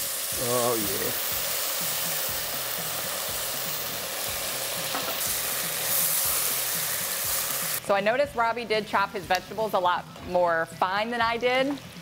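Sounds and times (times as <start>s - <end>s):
liquid sizzling in hot pan: 0.0s - 12.0s.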